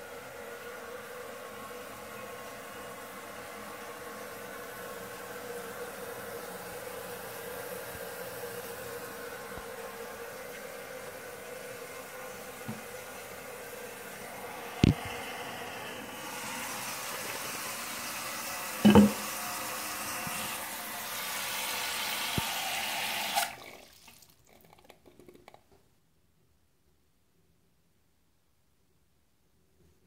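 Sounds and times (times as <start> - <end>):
toilet fill valve hissing: 0.0 - 25.0.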